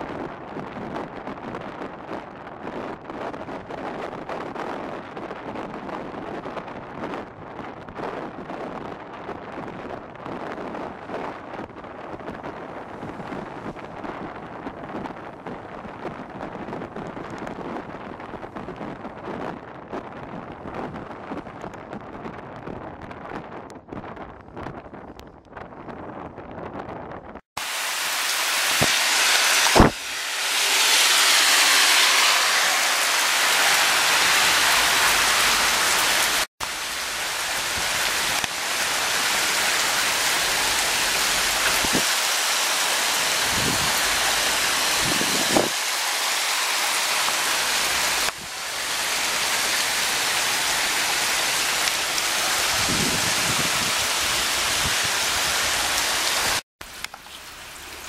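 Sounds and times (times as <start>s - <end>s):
heavy rain on wet street: 0.0s - 23.6s, 27.6s - 58.0s.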